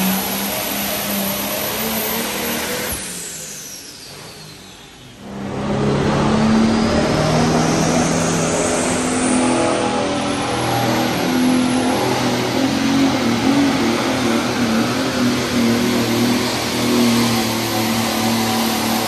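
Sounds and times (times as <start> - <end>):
diesel engine running loud: 0.0 - 19.0
high turbo whine: 0.0 - 19.0.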